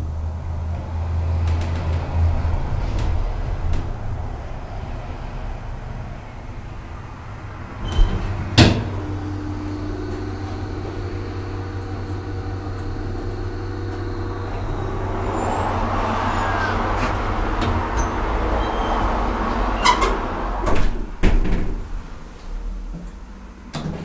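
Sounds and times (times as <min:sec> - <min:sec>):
elevator pump motor humming: 0:00.0 - 0:24.0.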